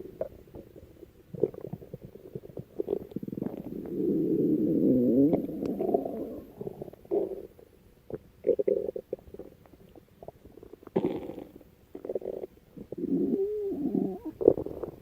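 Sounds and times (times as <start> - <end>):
stomach growling: 0.0 - 15.0.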